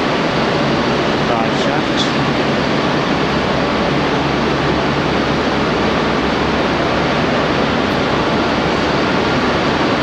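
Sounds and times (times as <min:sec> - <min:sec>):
industrial roar: 0:00.0 - 0:10.0.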